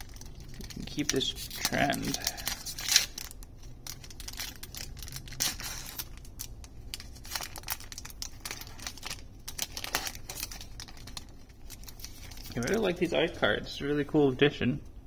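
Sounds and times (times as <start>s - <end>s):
foil wrapper tearing and crinkling: 0.0s - 13.2s.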